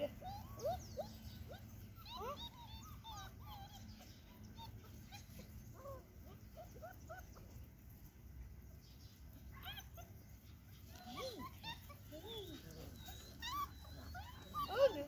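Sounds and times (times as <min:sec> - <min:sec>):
puppies whimpering and squeaking: 0:00.0 - 0:08.1, 0:08.8 - 0:15.0.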